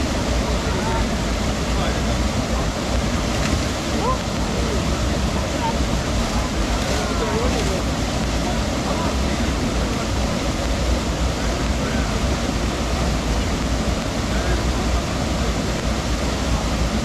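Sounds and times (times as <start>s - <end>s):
river water rushing over falls: 0.0s - 17.0s.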